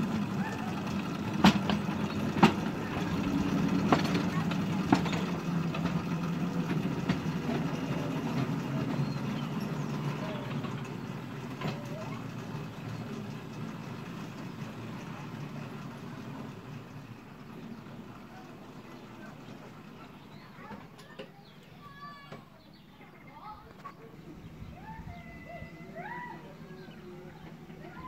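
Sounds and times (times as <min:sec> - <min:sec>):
locomotive engine humming: 0:00.0 - 0:28.0.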